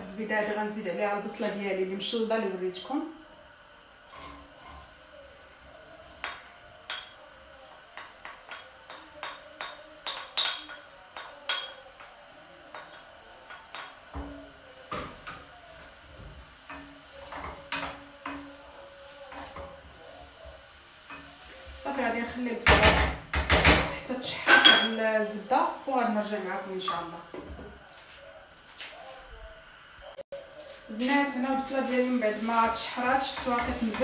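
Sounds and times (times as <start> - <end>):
stirring onion in a frying pan: 3.5 - 28.7, 30.4 - 34.0.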